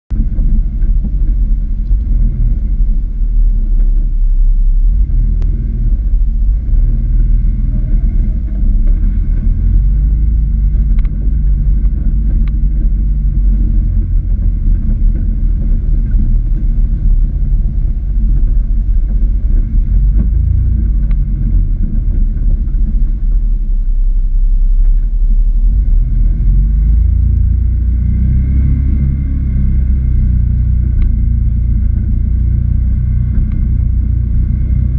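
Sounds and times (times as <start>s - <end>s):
engine low rumble: 0.1s - 34.9s.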